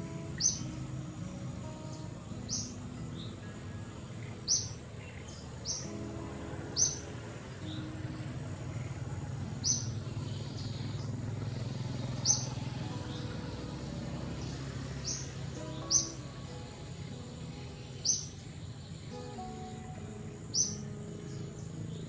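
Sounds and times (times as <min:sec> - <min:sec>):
bird chirping: 0:00.0 - 0:22.0
low background rumble: 0:00.0 - 0:22.0.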